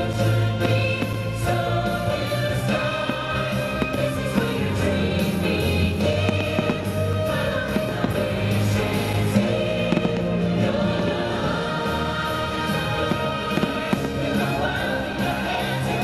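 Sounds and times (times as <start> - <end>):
fireworks bursting: 0.0 - 16.0
music with singing: 0.0 - 16.0.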